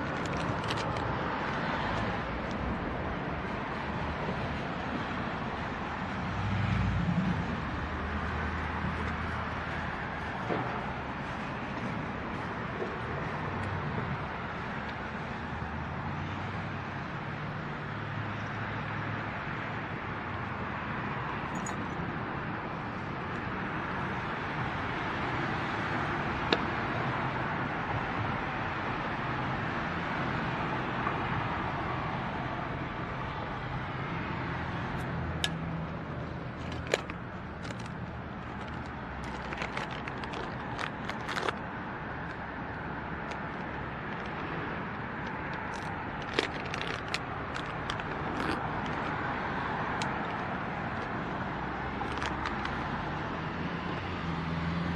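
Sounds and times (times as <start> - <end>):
road traffic noise: 0.0 - 54.9.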